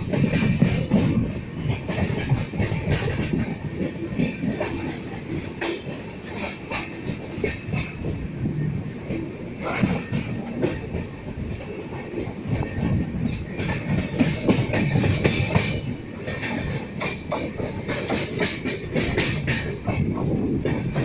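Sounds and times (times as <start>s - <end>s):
train wheels clattering over rails: 0.0s - 21.0s.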